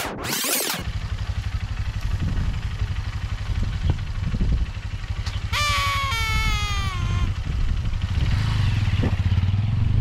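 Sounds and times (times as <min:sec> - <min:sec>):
motorcycle engine idling: 0:00.8 - 0:10.0.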